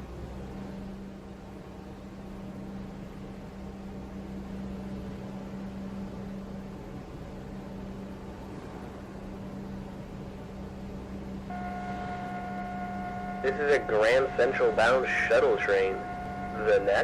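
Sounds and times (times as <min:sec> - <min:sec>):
train mechanical hum: 0:00.0 - 0:17.0.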